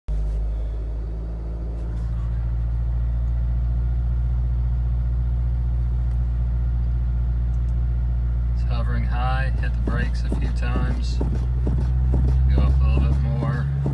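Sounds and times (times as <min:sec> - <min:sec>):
car engine idling: 0:00.1 - 0:13.9.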